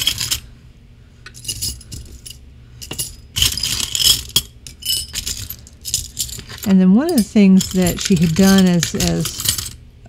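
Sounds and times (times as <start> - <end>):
small metal parts clinking: 0.0 - 0.5, 1.2 - 9.8.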